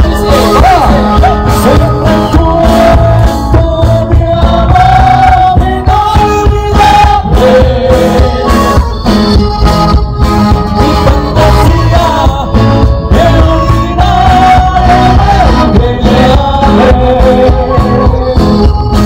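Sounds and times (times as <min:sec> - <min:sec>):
person singing: 0:00.0 - 0:09.0, 0:10.7 - 0:19.0
band music over a pa: 0:00.0 - 0:19.0.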